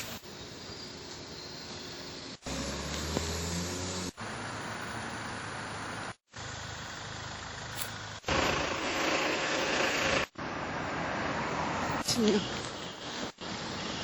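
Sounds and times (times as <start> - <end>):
street traffic noise: 0.0 - 14.0
car engine idling: 1.3 - 14.0.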